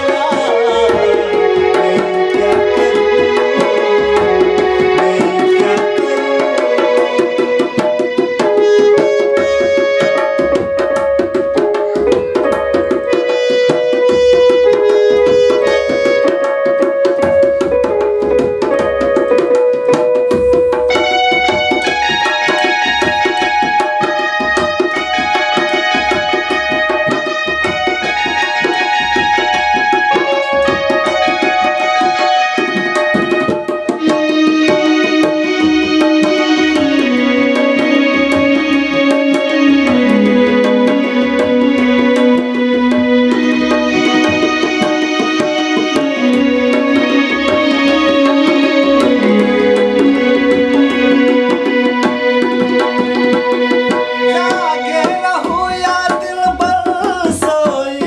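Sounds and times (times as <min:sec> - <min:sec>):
electronic keyboard melody: 0:00.0 - 0:58.0
fast hand drumming: 0:00.0 - 0:58.0.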